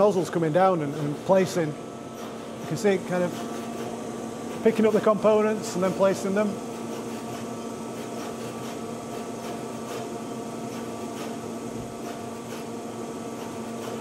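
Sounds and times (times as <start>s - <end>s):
machine mechanical hum: 0.0s - 14.0s.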